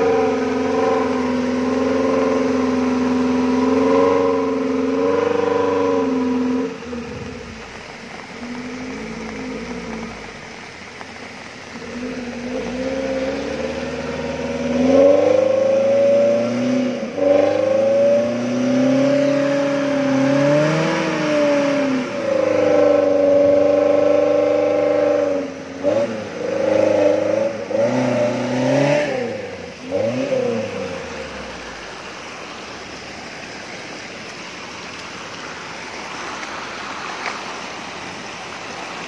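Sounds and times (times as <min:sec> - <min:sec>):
engine revving in mud: 0:00.0 - 0:39.0.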